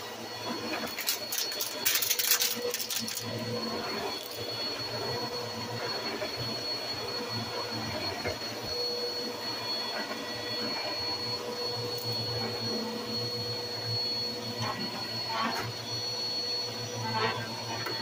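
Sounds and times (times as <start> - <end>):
vacuum cleaner running on carpet: 0.0 - 18.0.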